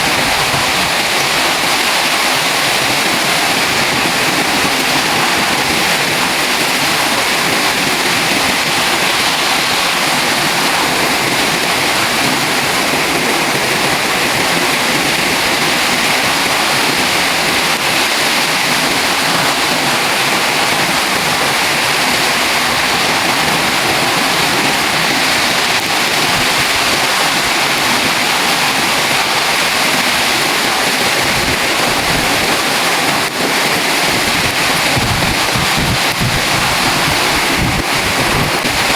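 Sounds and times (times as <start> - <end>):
heavy rain pouring: 0.0 - 38.9
wind gusts on microphone: 0.0 - 38.9.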